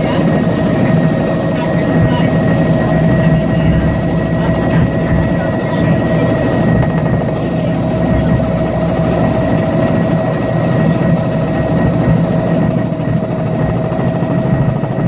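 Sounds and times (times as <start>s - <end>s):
helicopter rotor and engine noise: 0.0s - 15.0s.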